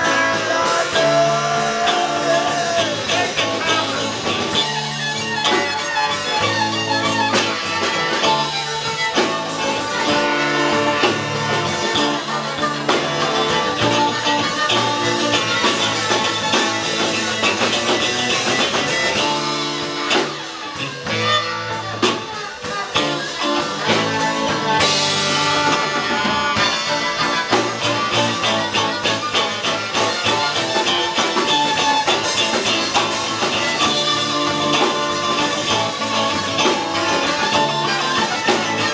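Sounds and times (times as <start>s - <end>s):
drum kit: 0.0s - 38.9s
electric guitar: 0.0s - 38.9s
saxophone: 0.0s - 38.9s.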